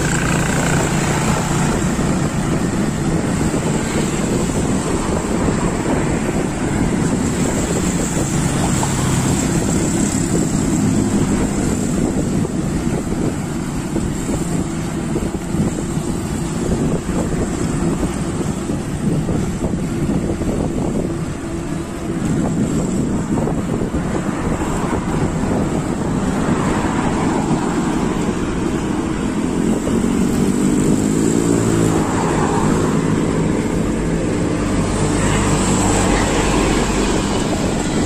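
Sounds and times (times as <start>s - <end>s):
road noise rumble: 0.0s - 38.0s
wind rushing over microphone: 0.0s - 38.0s.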